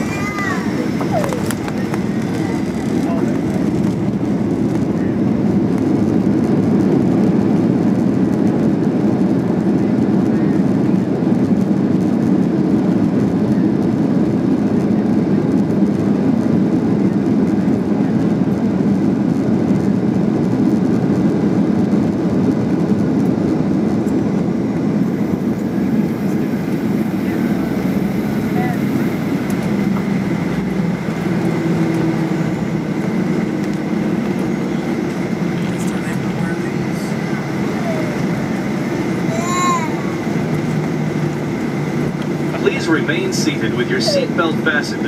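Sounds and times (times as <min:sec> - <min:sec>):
jet engines roaring: 0:00.0 - 0:45.0
wheels rumbling on runway: 0:00.0 - 0:45.0.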